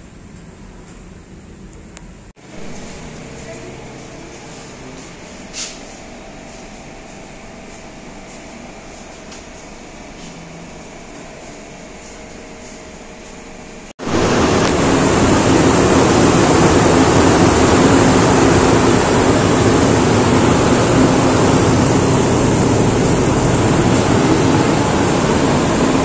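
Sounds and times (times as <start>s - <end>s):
exhaust fan rushing air: 0.0s - 26.0s
soft exhaust fan hum: 0.0s - 26.0s.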